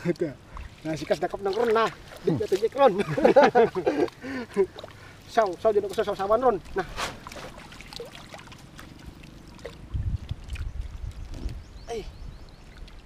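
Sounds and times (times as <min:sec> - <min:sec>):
shallow water sloshing and splashing: 0:00.0 - 0:13.0.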